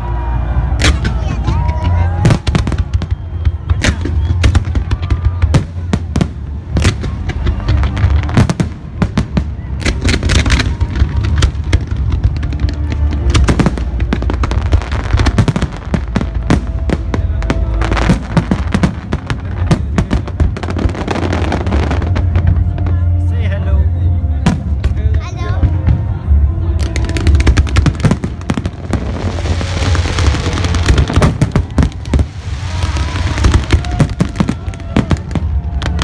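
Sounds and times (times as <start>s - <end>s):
fireworks bangs and crackles: 0.0s - 23.5s, 24.4s - 36.0s.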